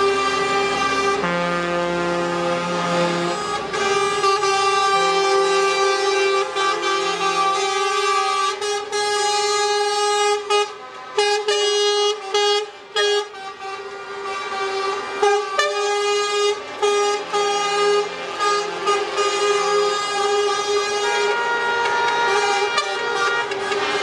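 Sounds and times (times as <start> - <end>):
truck air horns: 0.0 - 24.0.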